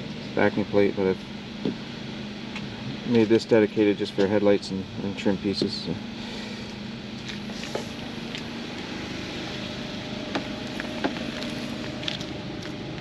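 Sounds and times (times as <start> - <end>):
generator engine hum: 0.0 - 13.0.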